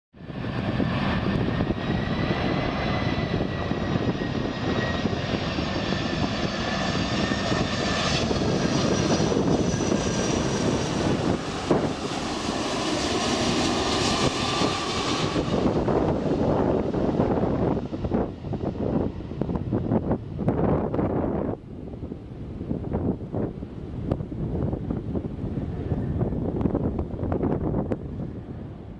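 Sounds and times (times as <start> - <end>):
jet engines running: 0.2 - 28.9
wind buffeting microphone: 0.2 - 28.9.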